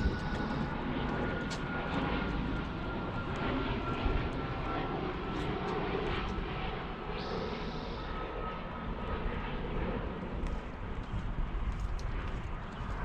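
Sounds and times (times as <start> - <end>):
airplane engine rumble: 0.0 - 13.0
faint airplane whine: 0.0 - 13.0.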